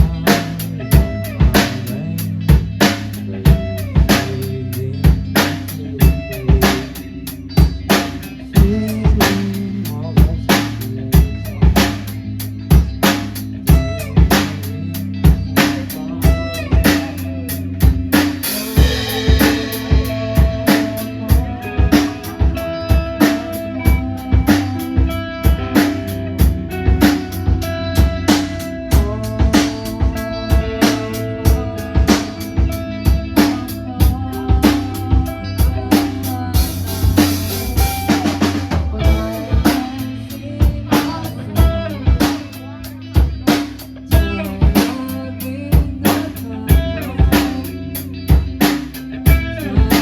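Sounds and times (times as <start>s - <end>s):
drum kit beat: 0.0s - 50.0s
rock band playing: 0.0s - 50.0s.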